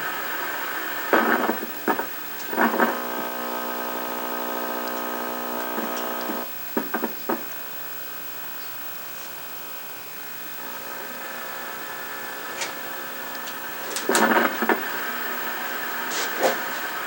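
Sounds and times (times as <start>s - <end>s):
steady electrical buzz: 0.0s - 17.0s.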